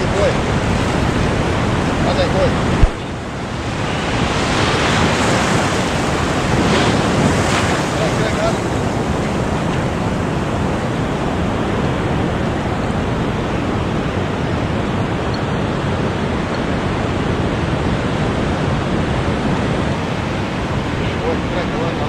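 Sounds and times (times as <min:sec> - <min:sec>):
surf washing in shallows: 0:00.0 - 0:22.0
wind rumbling on microphone: 0:00.0 - 0:22.0.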